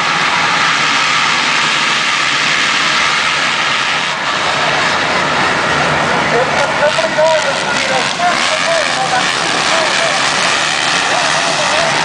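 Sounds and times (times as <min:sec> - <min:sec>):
dirt bike engines racing: 0:00.0 - 0:12.0.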